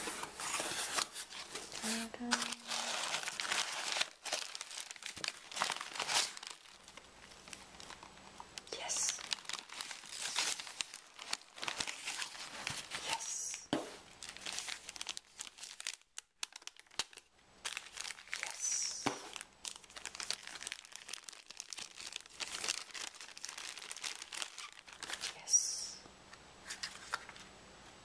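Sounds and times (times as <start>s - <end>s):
packing paper crumpling: 0.1s - 13.3s, 14.0s - 25.5s
plastic bag crinkling: 0.2s - 13.2s, 14.0s - 25.5s.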